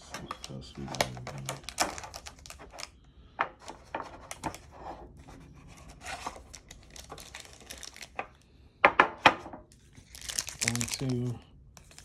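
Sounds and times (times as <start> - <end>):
rustling of cards and wrapper: 0.0 - 3.0, 3.6 - 8.4, 9.8 - 12.0.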